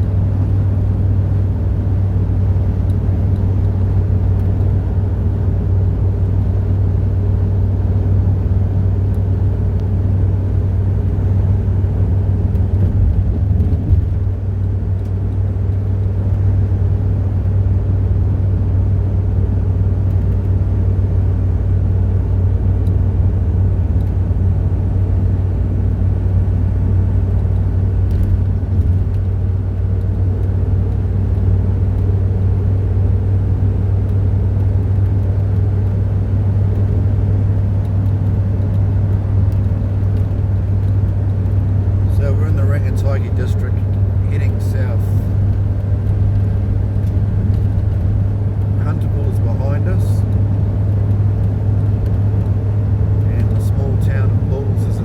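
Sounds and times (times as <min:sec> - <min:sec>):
car engine droning: 0:00.0 - 0:55.0
road noise: 0:00.0 - 0:55.0.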